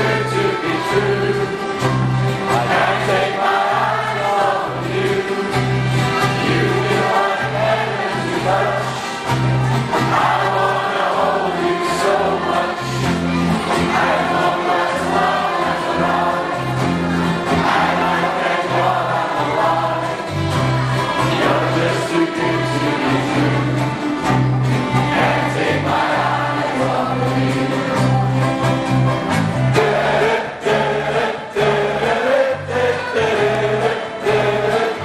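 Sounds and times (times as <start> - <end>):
group of voices singing: 0.0 - 35.0.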